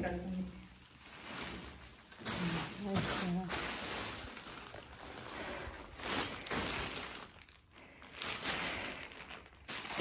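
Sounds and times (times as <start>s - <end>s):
plastic sheet rustling and crinkling: 0.0s - 10.0s.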